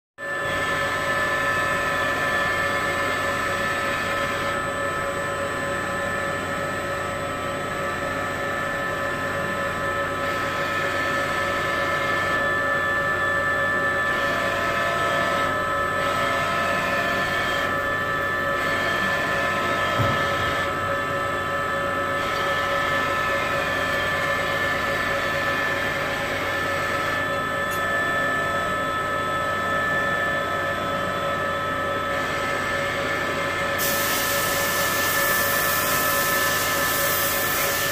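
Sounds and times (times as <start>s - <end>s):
lathe humming and whining: 0.2s - 37.9s.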